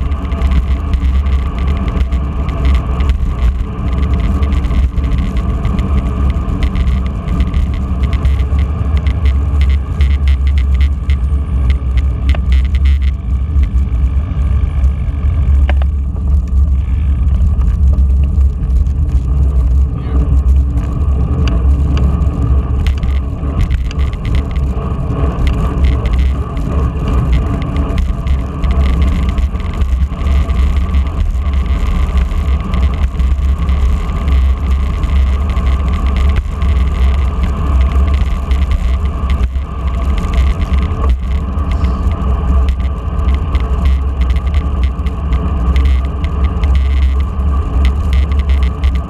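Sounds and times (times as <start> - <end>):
bicycle road rumble and rattle: 0.0 - 49.0
wind rushing over microphone: 0.0 - 49.0.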